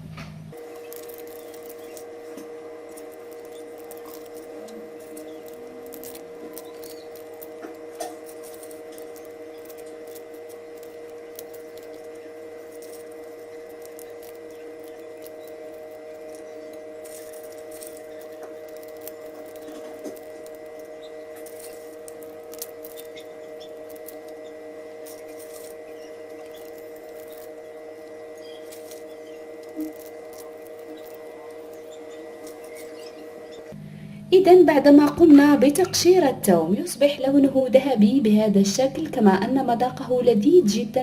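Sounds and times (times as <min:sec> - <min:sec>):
steady hum: 0:00.0 - 0:41.0
garlic skins crackling: 0:00.5 - 0:33.8.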